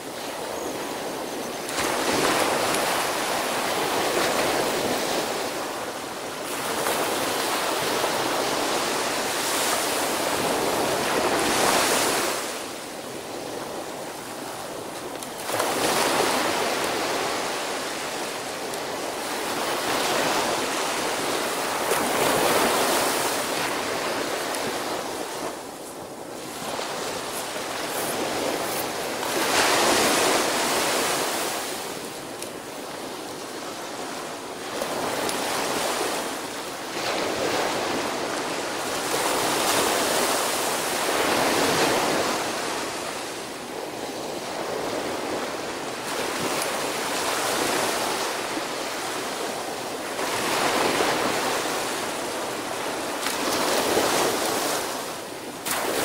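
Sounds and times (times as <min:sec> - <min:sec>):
waves breaking on beach: 0:00.0 - 0:56.0.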